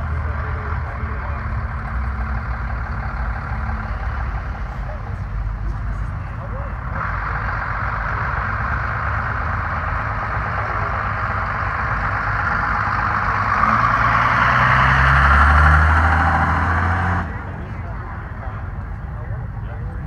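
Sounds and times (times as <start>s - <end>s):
pickup truck engine passing: 0.0s - 20.0s.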